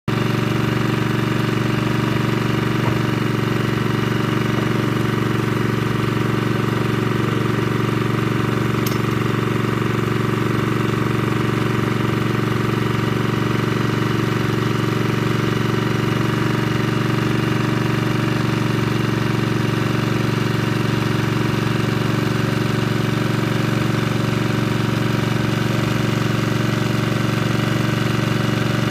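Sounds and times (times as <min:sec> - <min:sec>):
drilling machine engine running: 0:00.1 - 0:28.9.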